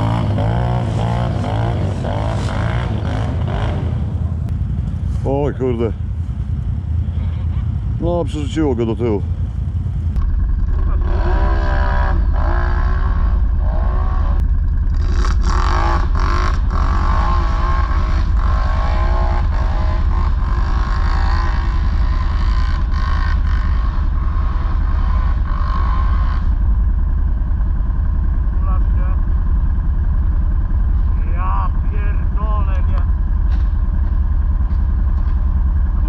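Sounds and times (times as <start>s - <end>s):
atv engines revving: 0.0s - 36.0s
steady low rumble: 0.0s - 36.0s.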